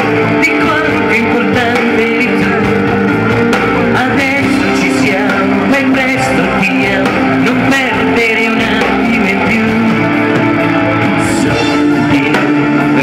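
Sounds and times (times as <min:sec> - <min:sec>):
electric guitars: 0:00.0 - 0:13.0
steady drum beat: 0:00.0 - 0:13.0.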